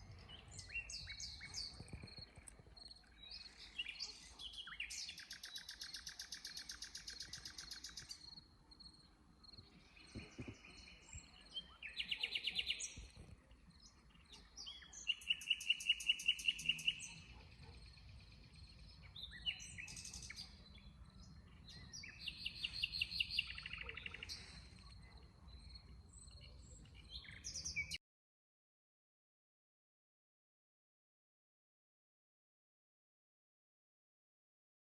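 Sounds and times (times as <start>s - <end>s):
songbirds singing: 0.0s - 28.0s.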